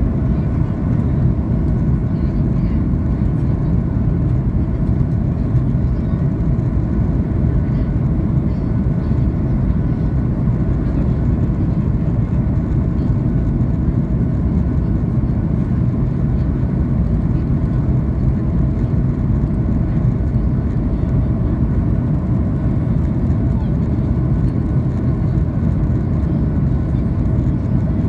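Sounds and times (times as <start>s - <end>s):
jet engine and airflow rumble: 0.0s - 28.0s.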